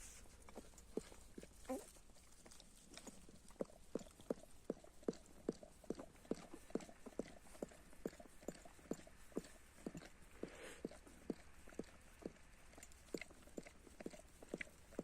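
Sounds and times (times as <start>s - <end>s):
puppies suckling wet clicks: 0.1s - 15.0s.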